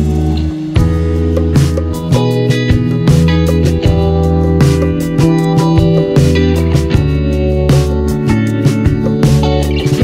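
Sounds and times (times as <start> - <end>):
steady bass: 0.0 - 10.0
strummed guitar: 0.0 - 10.0.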